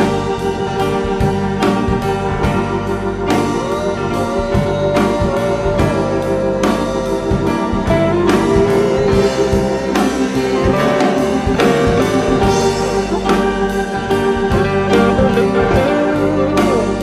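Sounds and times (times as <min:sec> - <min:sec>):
pop-rock band playing: 0:00.0 - 0:17.0
steady drum beat: 0:00.0 - 0:17.0.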